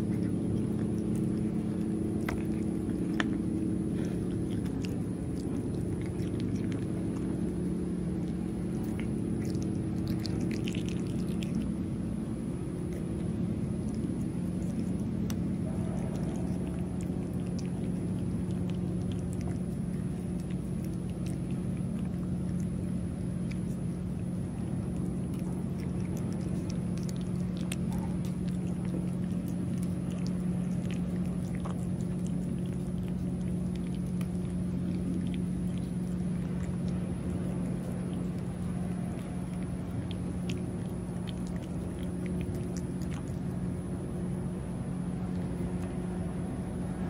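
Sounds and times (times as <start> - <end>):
cat chewing and licking: 0.0 - 47.0
steady low hum: 0.0 - 47.0.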